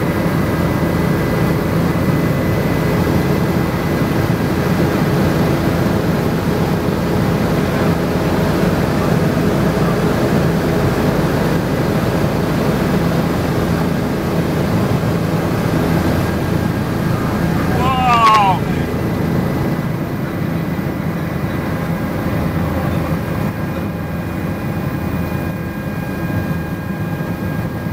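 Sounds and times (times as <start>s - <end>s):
helicopter engine and rotor drone: 0.0s - 27.9s.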